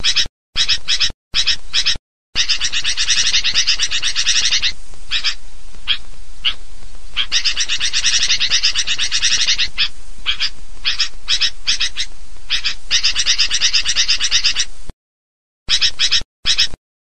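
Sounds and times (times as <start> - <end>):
bird chattering calls: 0.0 - 14.8, 15.7 - 16.8.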